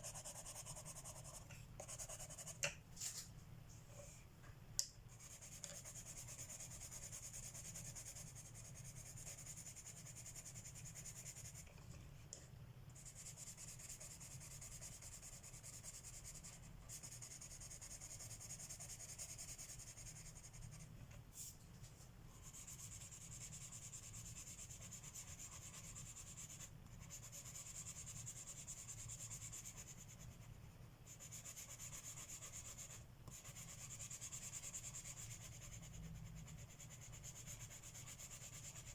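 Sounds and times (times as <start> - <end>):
pencil shading on paper: 0.0 - 2.6, 5.2 - 11.6, 13.0 - 20.8, 22.4 - 38.9.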